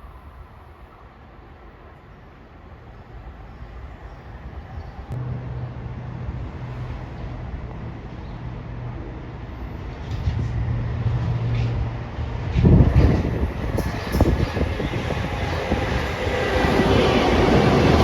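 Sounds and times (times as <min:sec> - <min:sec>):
train approaching hum: 0:00.0 - 0:18.0.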